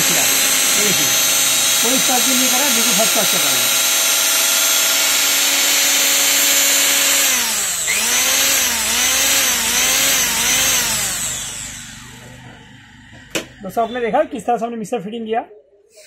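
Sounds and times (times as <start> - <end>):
electric motor whining: 0.0 - 14.3.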